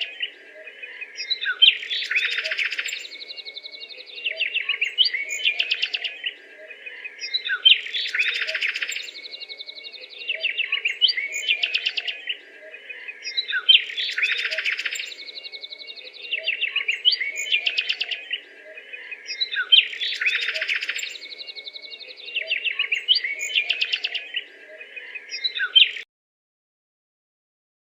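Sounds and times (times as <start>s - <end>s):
small birds chirping: 0.0s - 26.1s.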